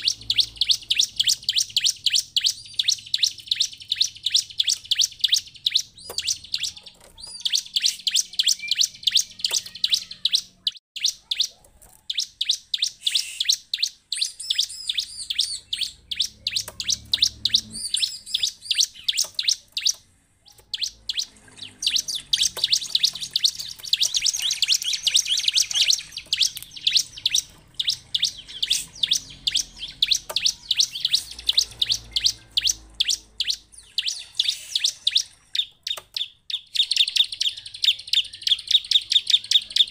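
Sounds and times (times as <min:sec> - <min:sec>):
bird rapid high chirps: 0:00.0 - 0:39.9.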